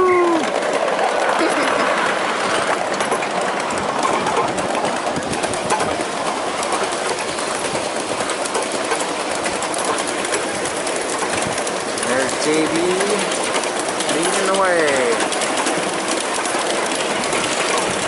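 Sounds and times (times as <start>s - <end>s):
miniature train wheels clattering: 0.0s - 18.0s.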